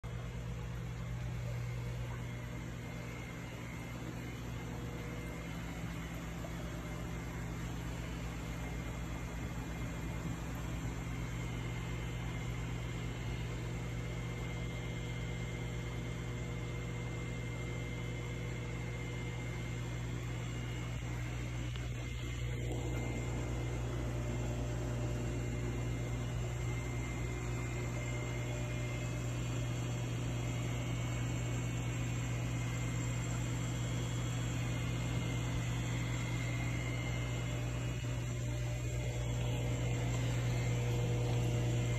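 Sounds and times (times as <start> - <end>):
aquarium pumps humming: 0.0 - 41.9.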